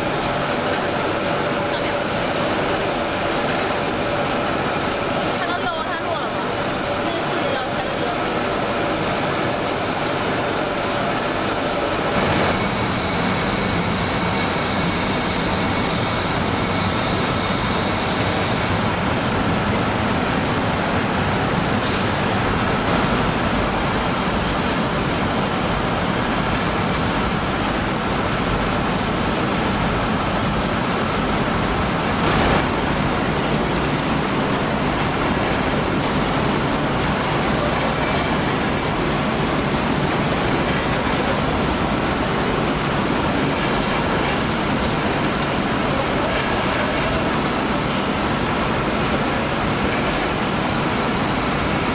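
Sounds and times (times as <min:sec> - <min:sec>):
faint steady whine: 0:00.0 - 0:51.9
machinery drone: 0:00.0 - 0:51.9.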